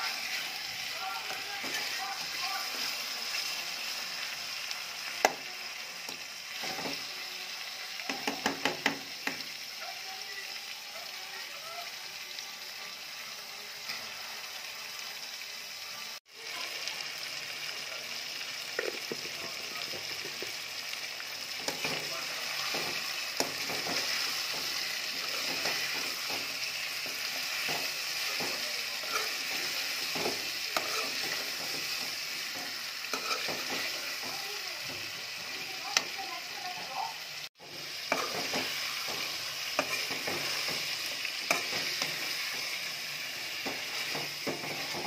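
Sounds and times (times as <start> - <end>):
chicken and onions sizzling: 0.0 - 45.0.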